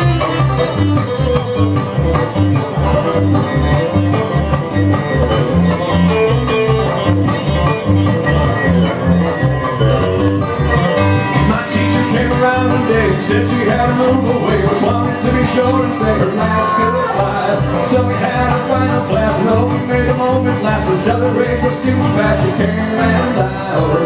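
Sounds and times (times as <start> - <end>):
bluegrass band playing: 0.0 - 24.0
fast banjo: 0.0 - 24.0.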